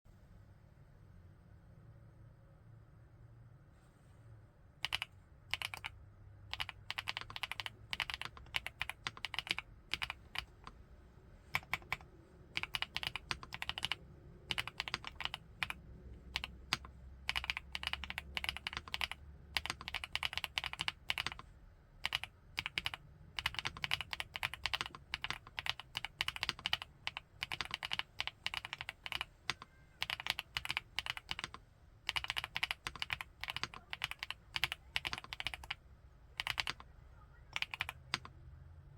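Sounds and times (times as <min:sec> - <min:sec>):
mechanical keyboard typing: 0:04.8 - 0:10.8, 0:11.5 - 0:36.9, 0:37.5 - 0:38.3.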